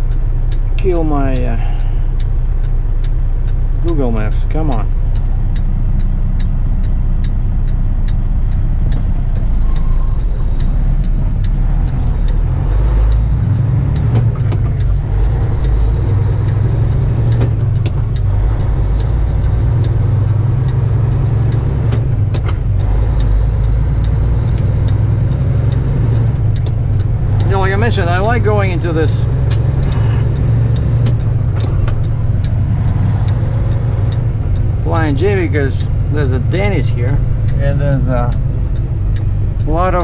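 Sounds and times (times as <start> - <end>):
truck diesel engine running: 0.0 - 40.0
turn signal clicking: 0.0 - 40.0.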